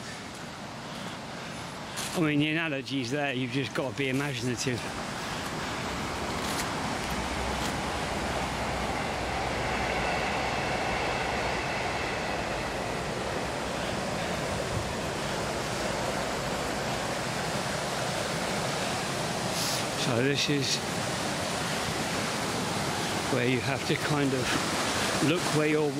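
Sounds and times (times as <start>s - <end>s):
river water rushing: 0.0s - 25.9s.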